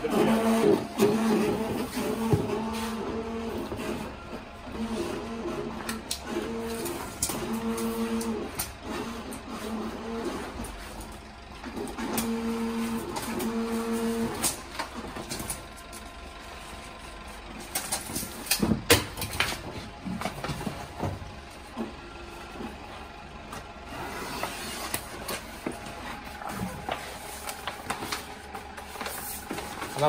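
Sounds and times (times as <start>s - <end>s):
cutting plotter motor hum: 0.0s - 30.0s
low background hum: 0.0s - 30.0s.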